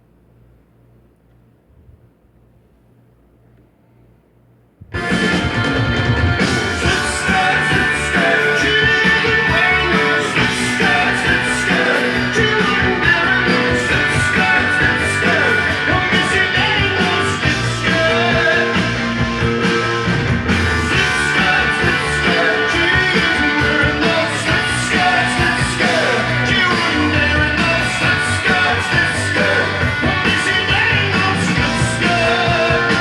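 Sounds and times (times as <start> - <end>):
rock music with guitar and singing: 4.9 - 33.0.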